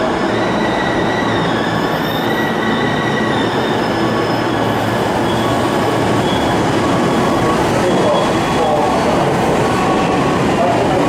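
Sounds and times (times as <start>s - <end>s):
high squeal: 0.0s - 10.9s
train rumbling into platform: 0.0s - 11.0s.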